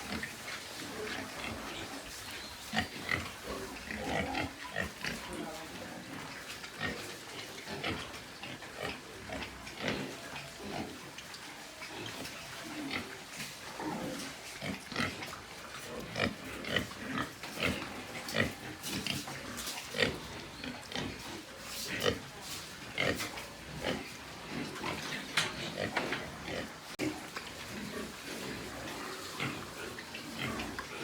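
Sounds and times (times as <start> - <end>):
pigs grunting: 0.0 - 31.0.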